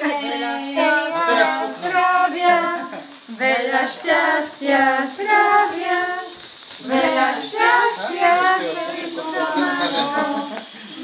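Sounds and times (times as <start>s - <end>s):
group of voices singing together: 0.0s - 11.0s.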